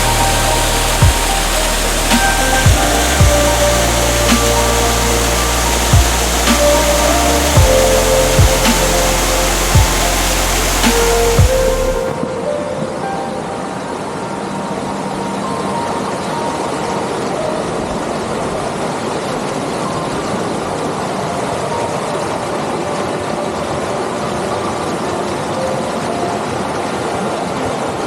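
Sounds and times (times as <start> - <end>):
stream water rushing: 0.0 - 28.0.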